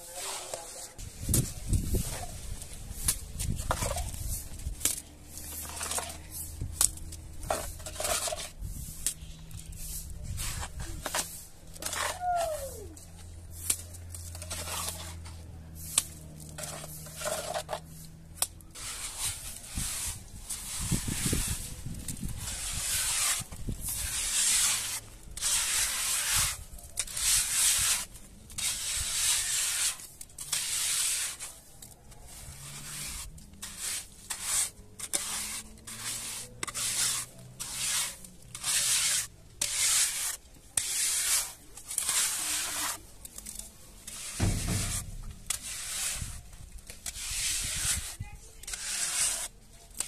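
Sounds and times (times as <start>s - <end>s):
rough scraping strokes: 0.0s - 50.0s.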